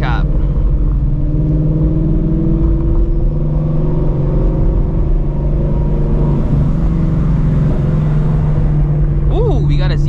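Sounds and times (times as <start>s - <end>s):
deep engine exhaust rumble: 0.0s - 10.0s.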